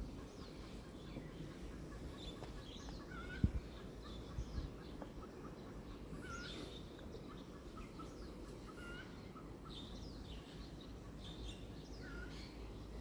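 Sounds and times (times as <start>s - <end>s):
birds chirping and calling: 0.0s - 13.0s
low steady background noise: 0.0s - 13.0s.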